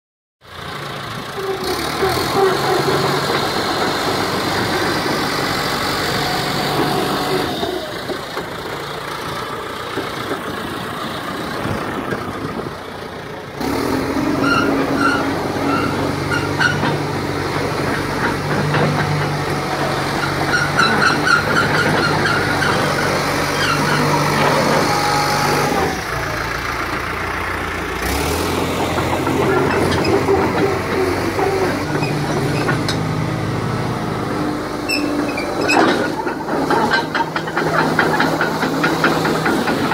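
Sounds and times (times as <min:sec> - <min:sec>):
diesel engine running: 0:00.5 - 0:39.9.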